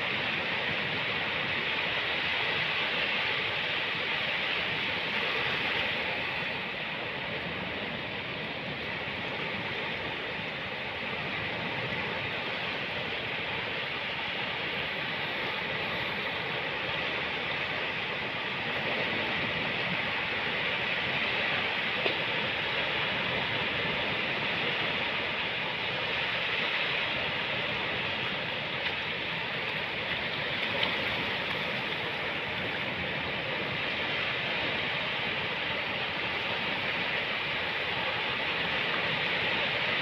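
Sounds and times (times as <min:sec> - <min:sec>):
ocean surf washing onto beach: 0:00.0 - 0:40.0.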